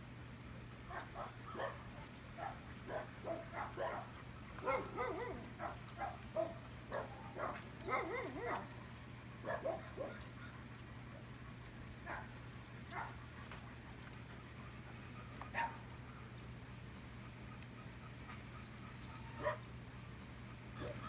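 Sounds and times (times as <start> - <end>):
dogs barking and yipping: 0.8 - 21.0.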